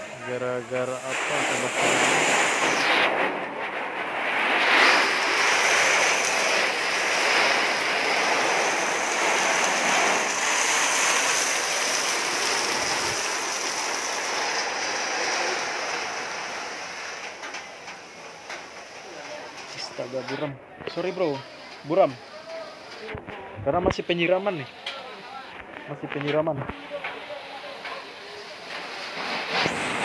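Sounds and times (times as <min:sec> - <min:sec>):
fire hose spraying water: 0:00.0 - 0:23.2, 0:26.7 - 0:30.0.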